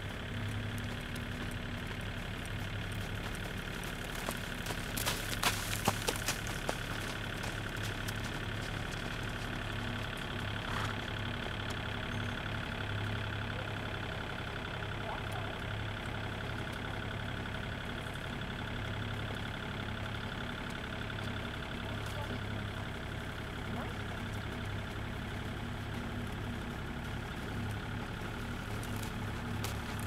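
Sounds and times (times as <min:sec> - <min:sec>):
engine-like hum: 0:00.0 - 0:30.0.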